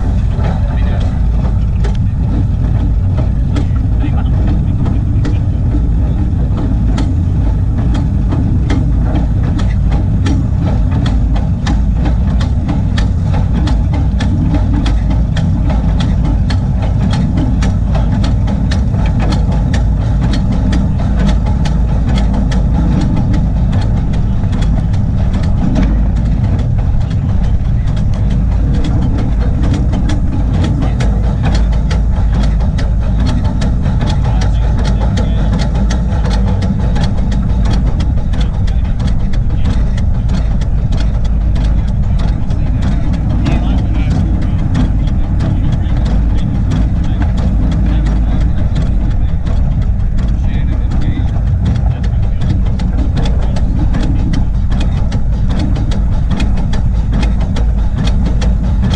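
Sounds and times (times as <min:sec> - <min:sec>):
running gear clattering on rails: 0:00.0 - 0:58.9
steam locomotive rumbling: 0:00.0 - 0:58.9.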